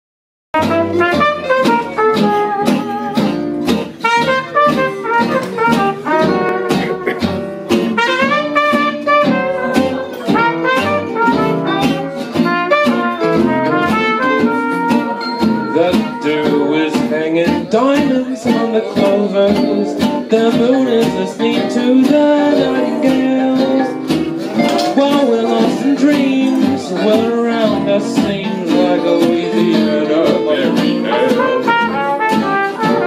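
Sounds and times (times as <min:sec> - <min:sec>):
trumpet melody: 0:00.6 - 0:17.8, 0:18.4 - 0:33.0
strummed acoustic guitars: 0:00.6 - 0:33.0
upright bass: 0:00.6 - 0:33.0.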